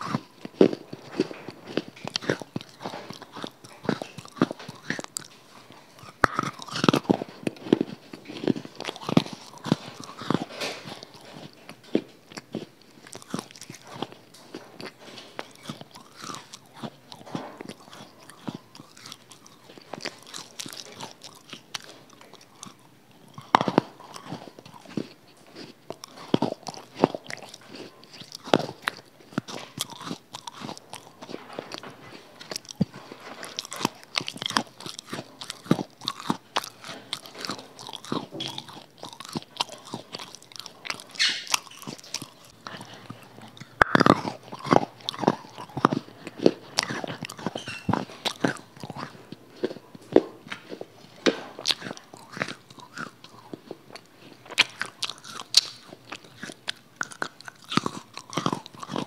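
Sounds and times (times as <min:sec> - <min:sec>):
chewing crunchy balls: 0:00.0 - 0:59.0.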